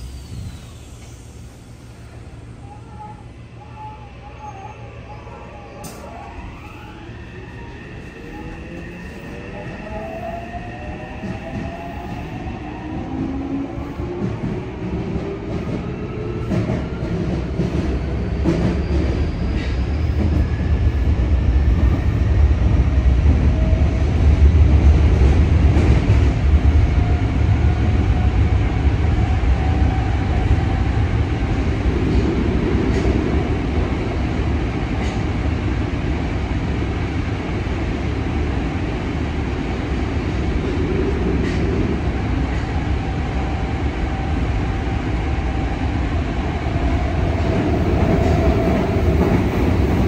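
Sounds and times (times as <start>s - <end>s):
train wheels rumbling on rail: 7.6s - 50.0s.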